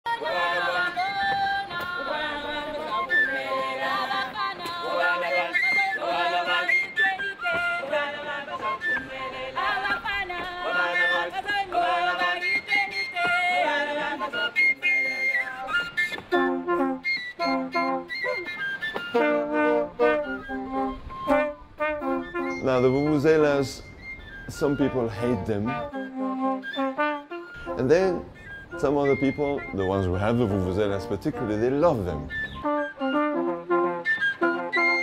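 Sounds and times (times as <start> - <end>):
high whistle-like music: 0.3 - 35.0.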